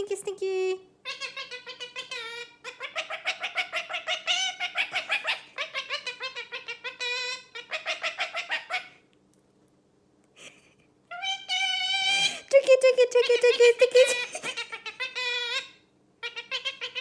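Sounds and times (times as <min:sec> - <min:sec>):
parrot calling: 0:01.0 - 0:09.0, 0:11.1 - 0:17.0.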